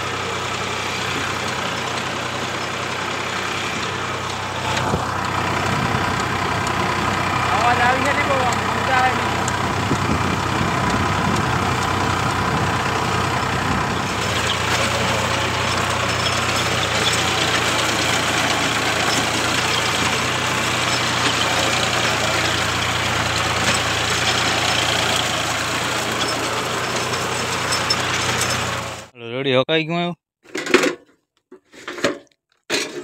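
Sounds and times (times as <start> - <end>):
tractor diesel engine running: 0.0 - 29.2.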